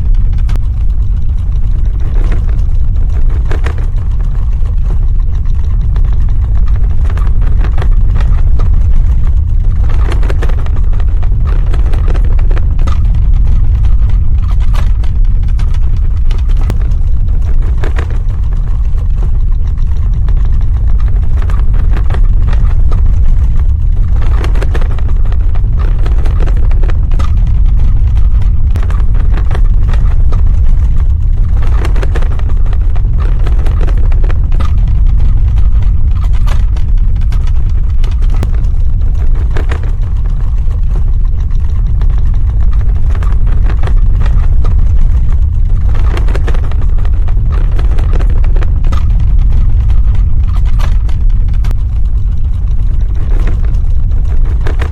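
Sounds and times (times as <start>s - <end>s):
deep loud rumble: 0.0s - 54.9s
rattling crackling surges: 0.0s - 54.9s.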